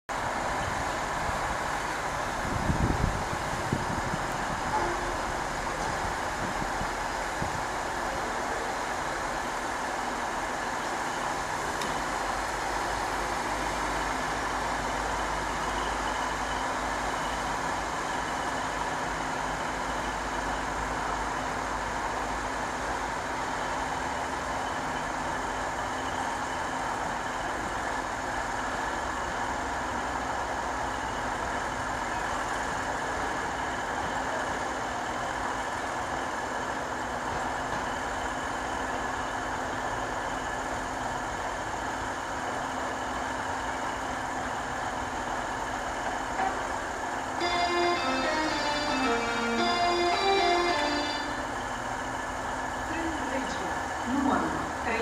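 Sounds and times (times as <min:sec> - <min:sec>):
train engine drone: 0:00.1 - 0:55.0.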